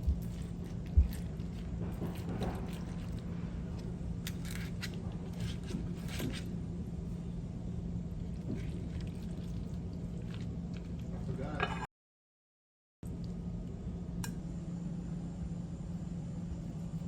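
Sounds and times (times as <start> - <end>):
steady low hum: 0.0 - 11.9, 13.0 - 17.0.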